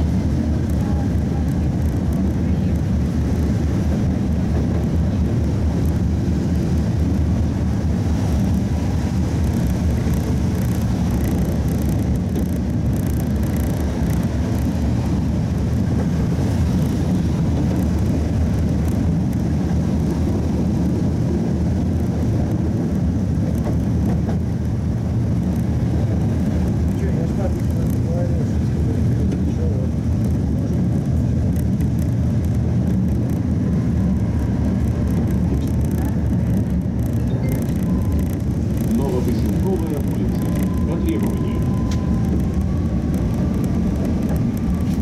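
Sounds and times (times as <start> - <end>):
tram rumbling on rails: 0.0 - 45.0.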